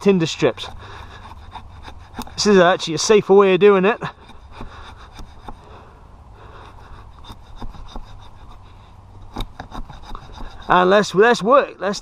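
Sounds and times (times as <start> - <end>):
wood scraping on axe blade: 0.0 - 11.4.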